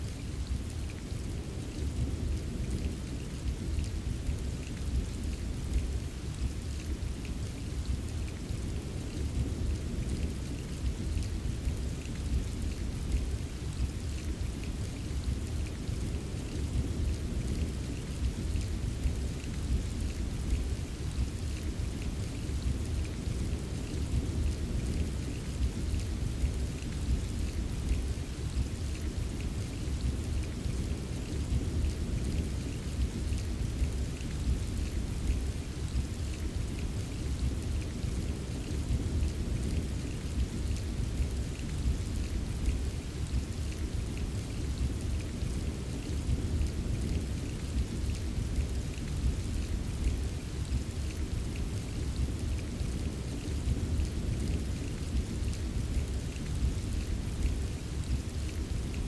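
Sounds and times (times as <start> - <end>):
deep rain rumble: 0.0 - 59.0
rain drips ticking: 0.1 - 59.0.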